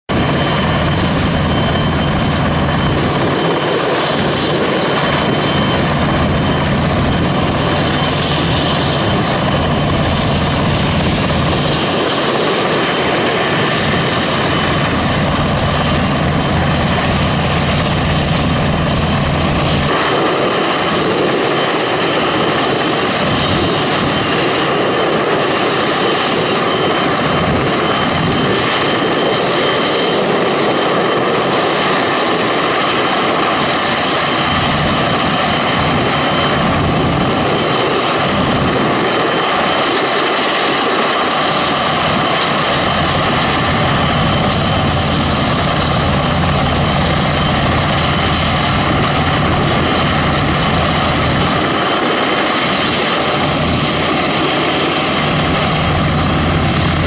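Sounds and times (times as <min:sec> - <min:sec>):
helicopter turbine whine: 0:00.0 - 0:57.0.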